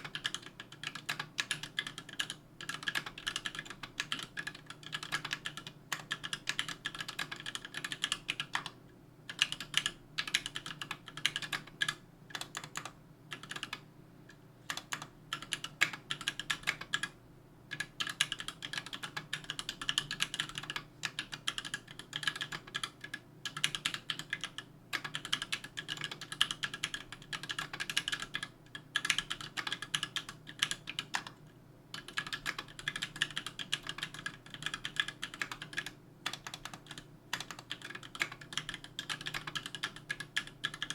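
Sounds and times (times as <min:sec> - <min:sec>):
mechanical keyboard typing: 0:00.0 - 0:13.8, 0:14.7 - 0:40.9.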